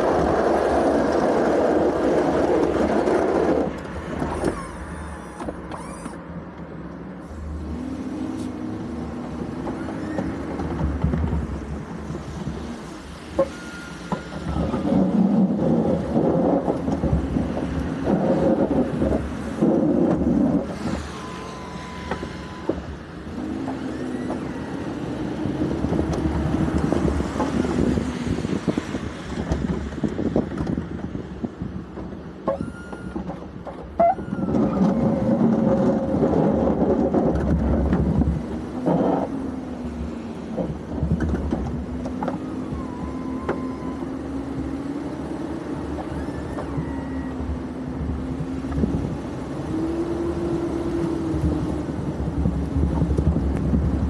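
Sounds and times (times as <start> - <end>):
plow blade scraping pavement: 0.0 - 54.0
truck engine under load: 0.0 - 54.0.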